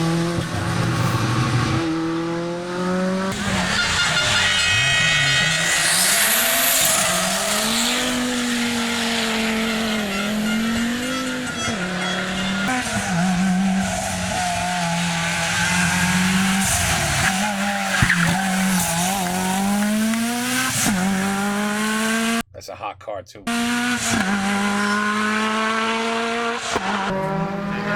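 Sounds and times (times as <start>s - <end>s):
rally car engine revving: 0.0s - 22.5s, 23.4s - 27.9s.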